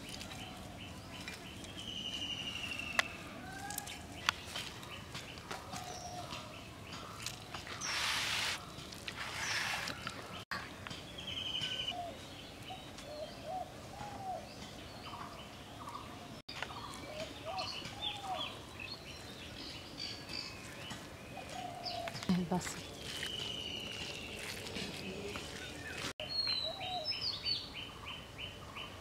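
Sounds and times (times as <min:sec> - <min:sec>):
birds calling and chirping: 0:00.0 - 0:29.0.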